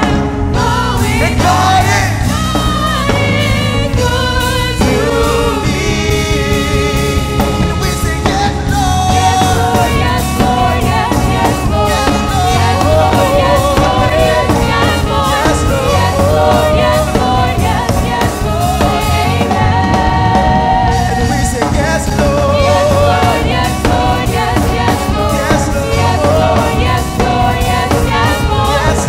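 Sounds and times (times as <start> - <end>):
singers over band: 0.0 - 29.0.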